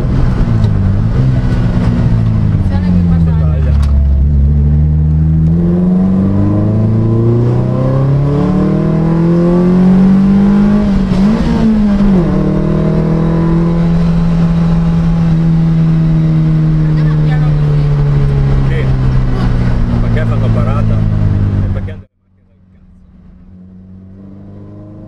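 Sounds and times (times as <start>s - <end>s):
racing car engine accelerating: 0.0s - 25.0s.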